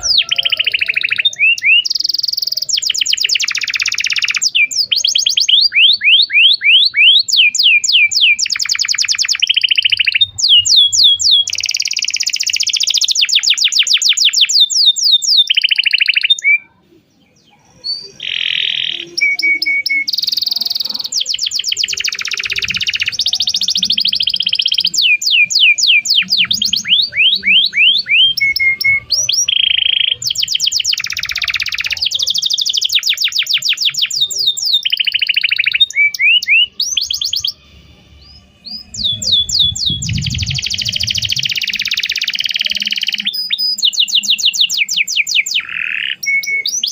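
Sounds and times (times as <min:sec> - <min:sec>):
canary singing rapid trills: 0:00.0 - 0:46.9.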